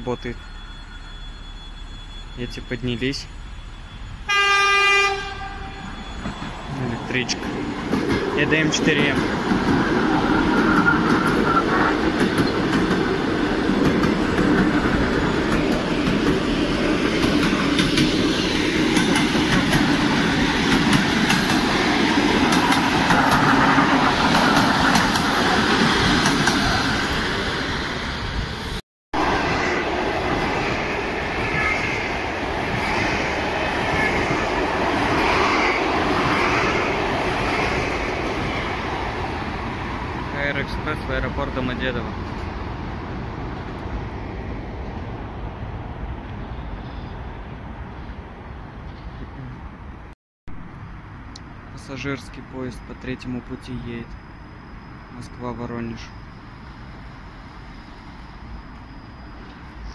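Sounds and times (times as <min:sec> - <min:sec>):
electric train passing platform: 0:00.0 - 0:59.9
train rumbling past: 0:00.0 - 0:59.9.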